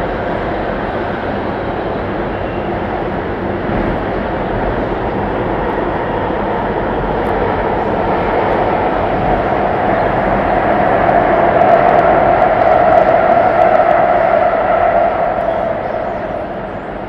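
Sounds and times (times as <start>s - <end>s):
metro train rumble and rush: 0.0s - 17.0s.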